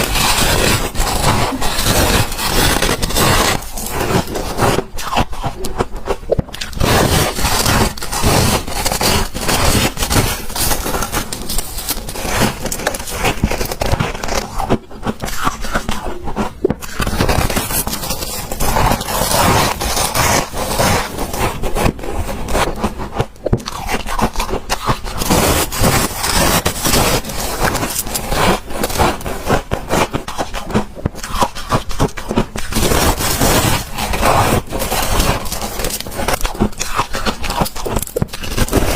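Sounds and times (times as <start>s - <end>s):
frost crunching and scraping: 0.0s - 38.9s.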